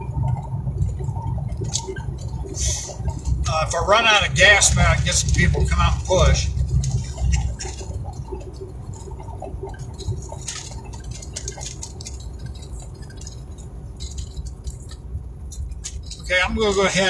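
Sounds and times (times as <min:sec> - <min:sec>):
vehicle cabin rumble: 0:00.0 - 0:17.0
light clicks and taps: 0:00.3 - 0:03.5, 0:04.6 - 0:16.3.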